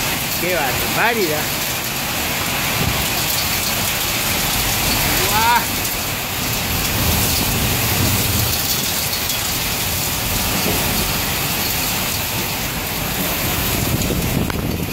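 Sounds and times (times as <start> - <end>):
heavy rain pouring: 0.0 - 14.9.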